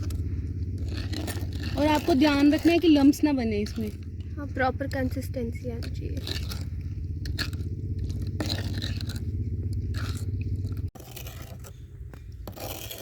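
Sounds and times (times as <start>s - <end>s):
spoon scraping a bowl: 0.0s - 4.4s, 5.8s - 13.0s
steady low hum: 0.0s - 13.0s.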